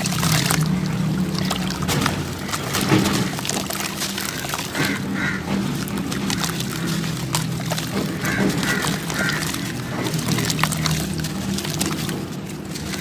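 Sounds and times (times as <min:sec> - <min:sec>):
dry sand crumbling: 0:00.0 - 0:13.0
duck-like calls: 0:00.1 - 0:12.2.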